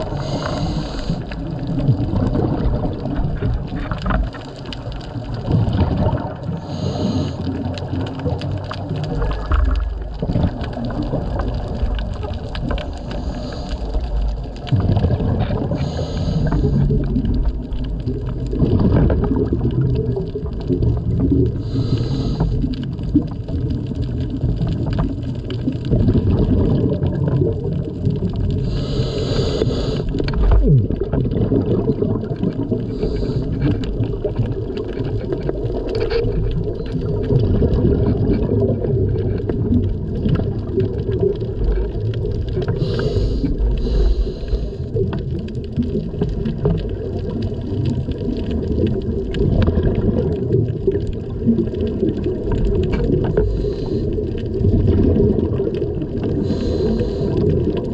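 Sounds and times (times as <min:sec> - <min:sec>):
gurgle of exhaled bubbles: 0:00.0 - 0:57.9.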